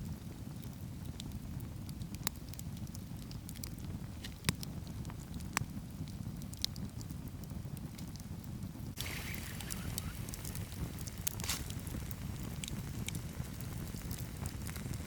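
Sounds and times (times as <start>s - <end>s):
campfire burning: 0.0s - 15.0s
firewood popping and crackling: 0.0s - 15.0s.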